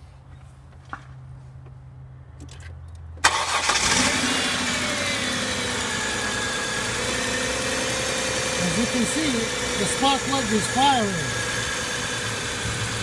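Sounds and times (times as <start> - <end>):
car engine starting and idling: 2.4 - 13.0.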